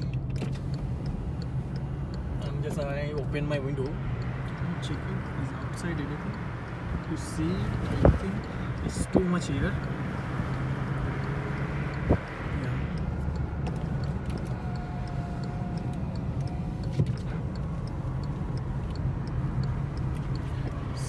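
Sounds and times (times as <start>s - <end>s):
car engine humming: 0.0s - 21.0s
rapid even ticking: 0.0s - 21.0s
road noise: 0.0s - 21.0s.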